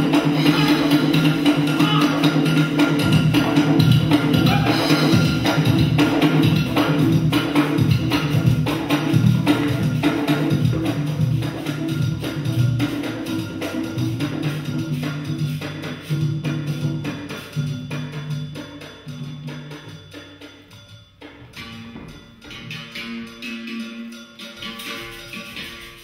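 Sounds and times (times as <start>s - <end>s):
band with hand drums: 0.0s - 26.0s
sharp percussion strikes: 0.0s - 26.0s.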